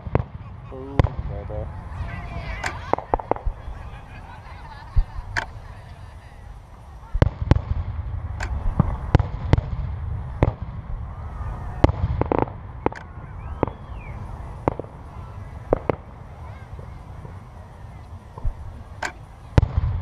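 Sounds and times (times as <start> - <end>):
fireworks bangs: 0.0 - 20.0
low rumble: 0.0 - 20.0.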